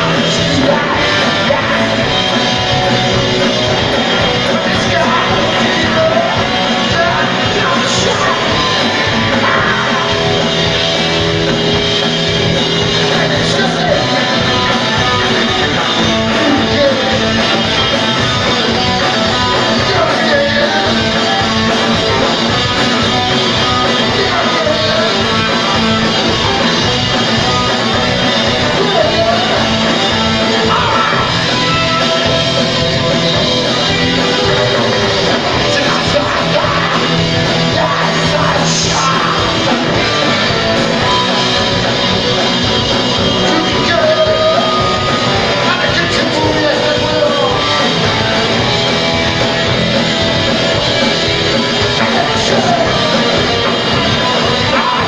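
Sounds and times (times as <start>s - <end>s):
bass guitar: 0.0s - 55.0s
electric guitars: 0.0s - 55.0s
man singing: 0.0s - 55.0s
steady drum beat: 0.0s - 55.0s.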